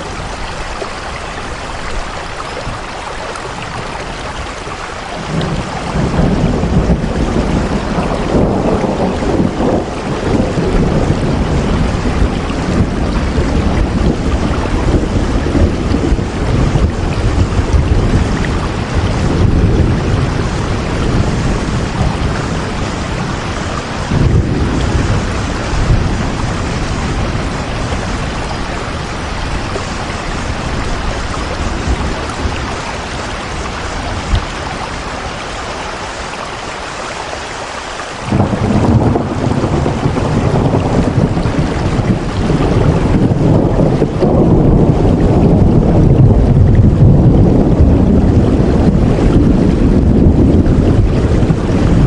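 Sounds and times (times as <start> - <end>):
heavy rain falling: 0.0 - 52.0
deep rumbling: 3.5 - 35.3, 38.2 - 52.0.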